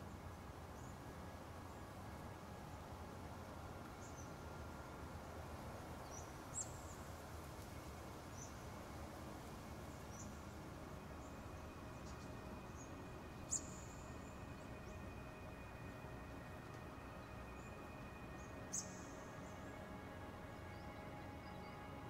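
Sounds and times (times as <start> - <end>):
low steady hiss and hum: 0.0 - 22.0.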